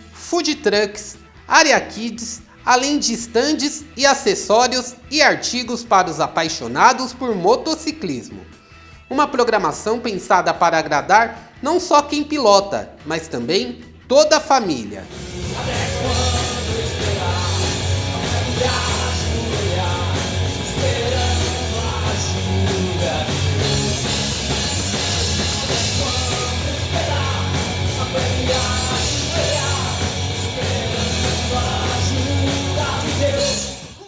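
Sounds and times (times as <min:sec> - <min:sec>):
rock music with singing: 0:00.0 - 0:34.0.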